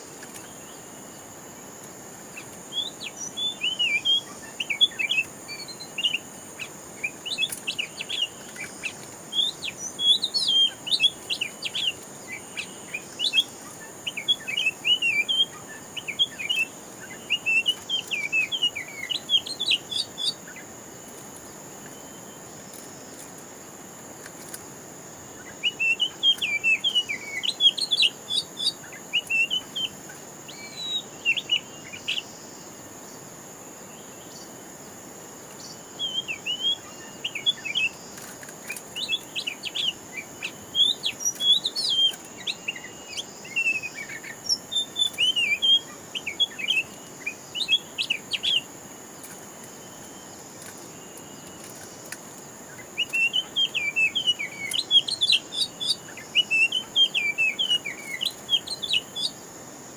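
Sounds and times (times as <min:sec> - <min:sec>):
birds singing: 0:00.0 - 0:59.9.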